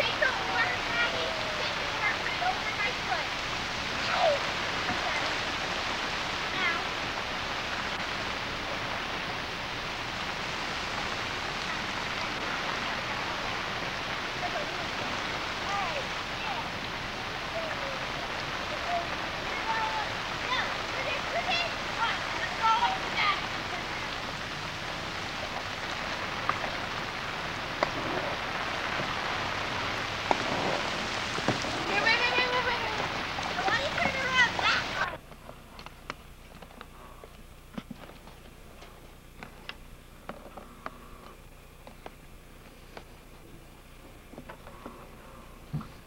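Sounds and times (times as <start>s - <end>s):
rain falling on floodwater: 0.0s - 46.0s.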